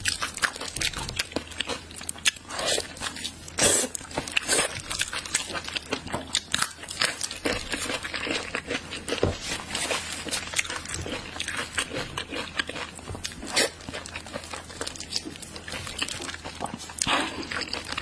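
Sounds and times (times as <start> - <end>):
wet chewing and lip-smacking: 0.0 - 9.2, 9.8 - 18.0.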